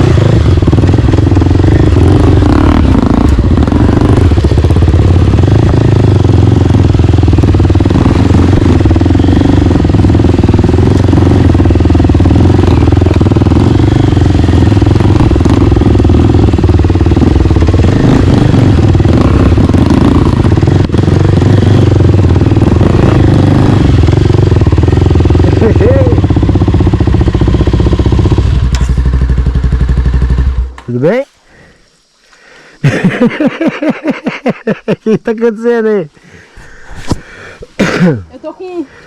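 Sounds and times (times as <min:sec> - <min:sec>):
motorcycle engine running: 0:00.0 - 0:31.8, 0:32.6 - 0:39.0.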